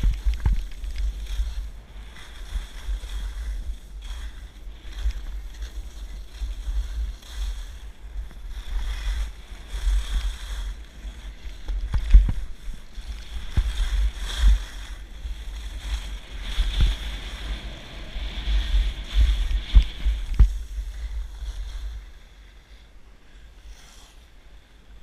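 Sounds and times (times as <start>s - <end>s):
low thumps of skis: 0.0s - 22.1s
skis scraping on snow: 0.0s - 25.0s
wind rumbling on microphone: 0.0s - 25.0s.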